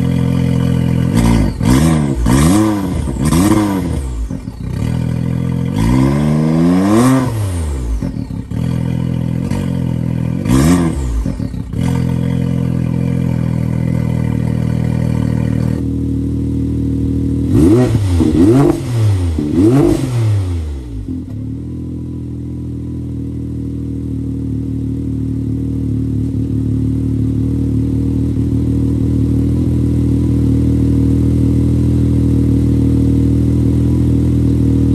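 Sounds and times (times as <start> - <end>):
engine revving and idling: 0.0 - 34.9.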